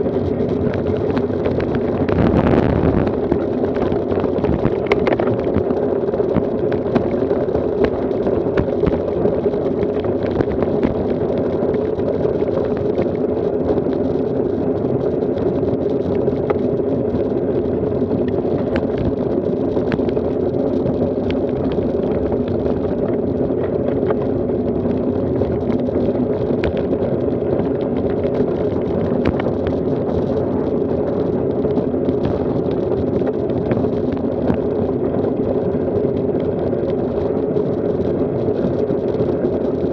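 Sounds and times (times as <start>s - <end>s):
bicycle rattling over bumps: 0.0s - 39.9s
bicycle road noise: 0.0s - 39.9s
wind rumble: 0.0s - 39.9s.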